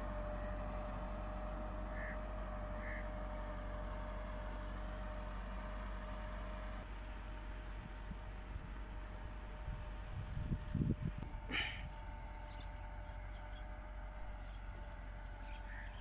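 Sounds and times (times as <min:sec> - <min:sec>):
distant tractor diesel engine: 0:00.0 - 0:16.0.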